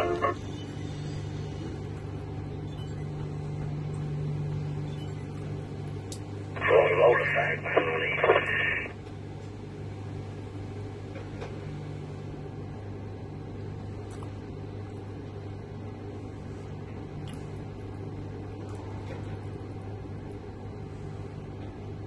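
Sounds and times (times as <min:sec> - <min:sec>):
low hum in crane cab: 0:00.0 - 0:22.0.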